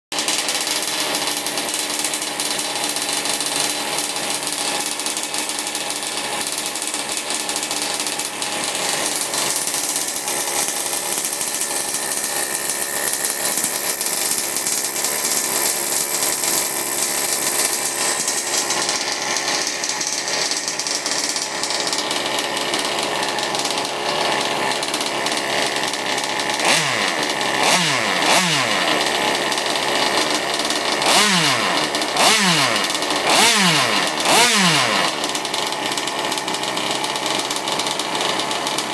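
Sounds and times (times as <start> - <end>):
two-stroke engine revving: 0.1 - 38.9.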